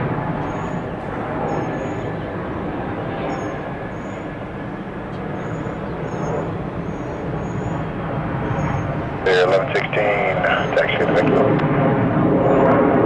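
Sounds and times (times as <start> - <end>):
jet engine noise: 0.0 - 13.0.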